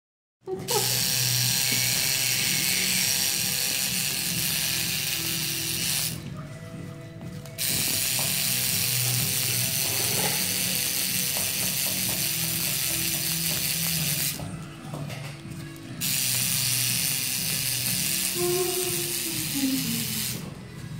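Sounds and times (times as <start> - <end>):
tattoo machine buzzing: 0.6 - 6.4, 7.4 - 14.5, 15.9 - 20.5.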